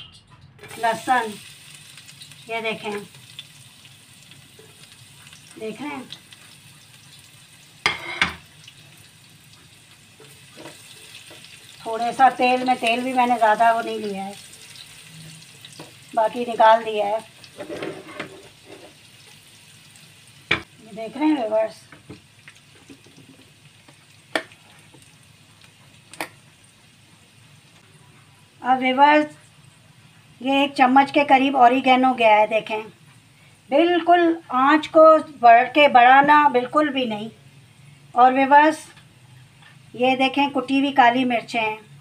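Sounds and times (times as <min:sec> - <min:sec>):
garlic sizzling in oil: 0:00.6 - 0:42.0.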